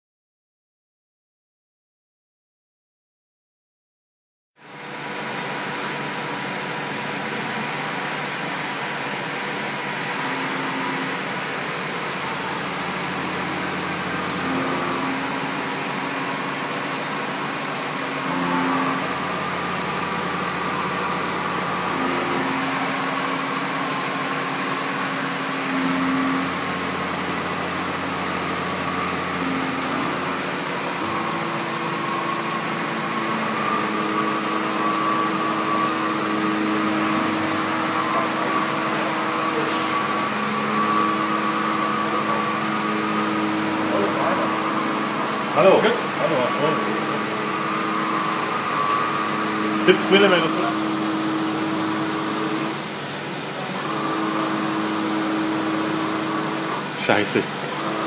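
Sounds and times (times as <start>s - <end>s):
cnc machine milling steel: 4.6s - 58.0s.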